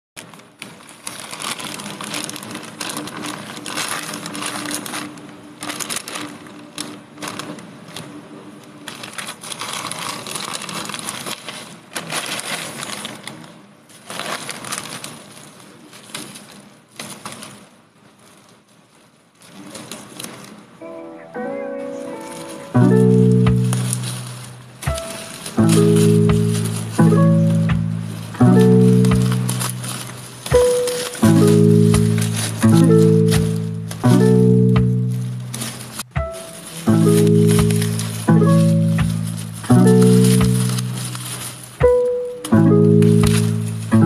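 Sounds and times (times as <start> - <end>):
plastic mailer bag crinkling: 0.2 - 18.5, 22.0 - 44.0
bubble-wrapped parcel rustling: 0.2 - 20.7, 22.0 - 44.0.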